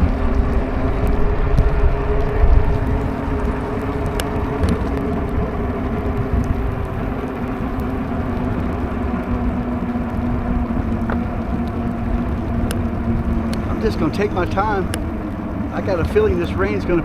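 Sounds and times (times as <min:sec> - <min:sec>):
faint ticks: 0:00.0 - 0:16.6
tyre noise on wet road: 0:00.0 - 0:17.0.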